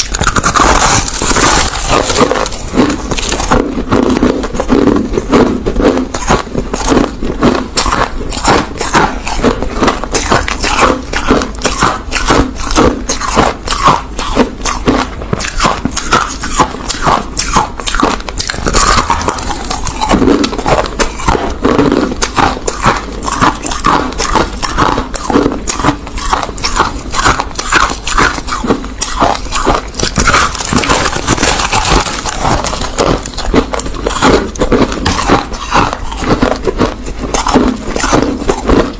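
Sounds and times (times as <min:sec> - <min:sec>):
chewing ice crunches: 0:00.0 - 0:38.9.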